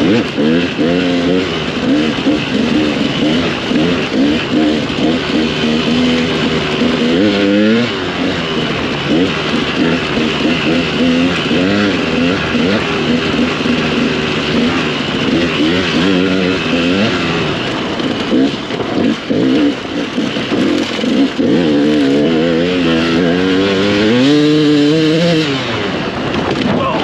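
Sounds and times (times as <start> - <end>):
dirt bike engine revving: 0.0 - 27.0
steady rushing noise: 0.0 - 27.0.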